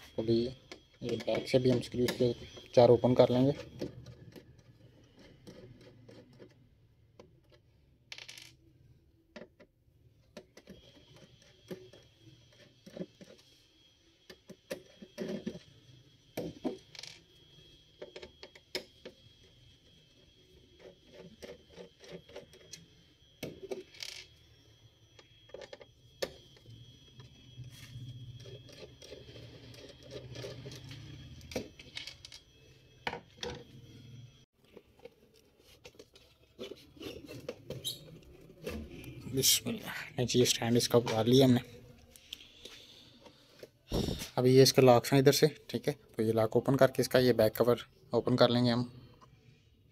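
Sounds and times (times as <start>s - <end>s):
faint high whine: 0.0s - 8.0s, 9.9s - 49.9s.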